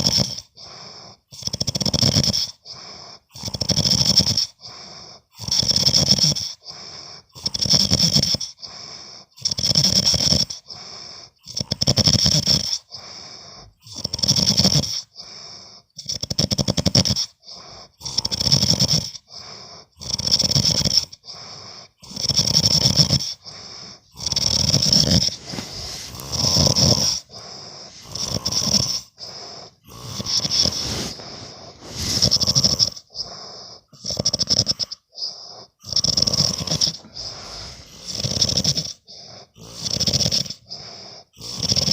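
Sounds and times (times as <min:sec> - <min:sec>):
rattling snoring: 0:00.0 - 0:15.3, 0:16.0 - 0:41.9.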